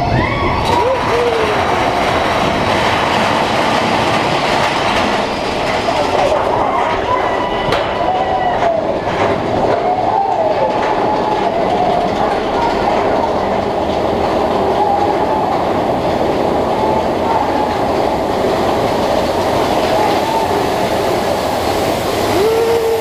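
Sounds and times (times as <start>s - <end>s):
roller coaster rumbling on track: 0.0s - 23.0s
wheels squealing: 0.0s - 23.0s.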